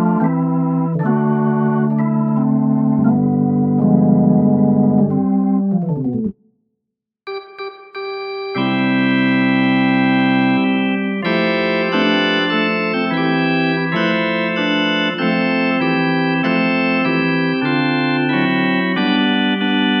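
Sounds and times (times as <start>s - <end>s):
organ playing sustained chords: 0.0s - 6.2s, 7.3s - 20.0s.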